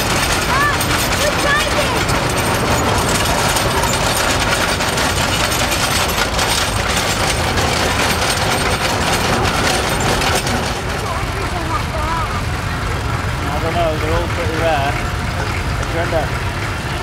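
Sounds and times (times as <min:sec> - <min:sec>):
crawler tractor engine and tracks clattering: 0:00.0 - 0:17.0.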